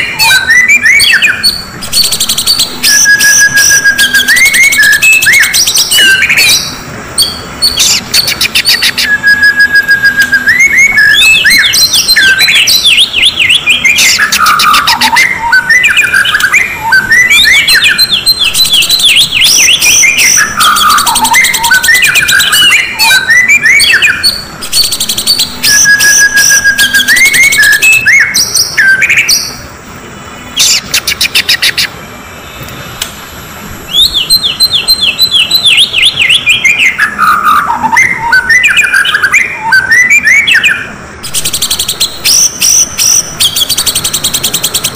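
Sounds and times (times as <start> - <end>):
bird whistles and trills: 0.0 - 29.7, 30.4 - 32.6, 33.9 - 44.9.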